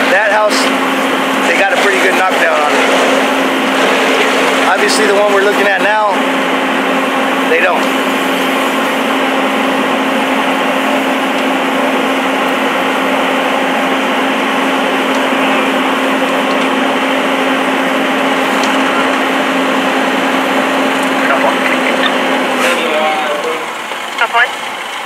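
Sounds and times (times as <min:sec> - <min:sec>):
machine drone: 0:00.0 - 0:25.0.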